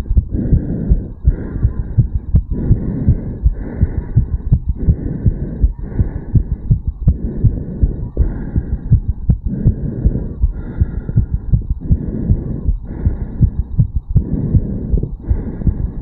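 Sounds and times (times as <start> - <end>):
heartbeat thumps: 0.0 - 16.0
whooshing heart murmur: 0.0 - 16.0.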